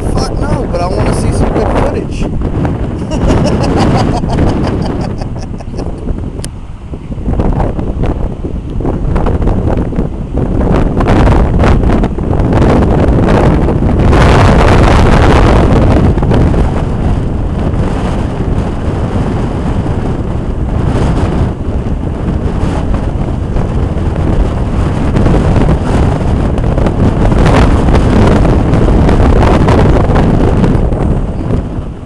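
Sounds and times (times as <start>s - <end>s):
heavy surf: 0.0s - 32.0s
strong wind blasting microphone: 0.0s - 32.0s.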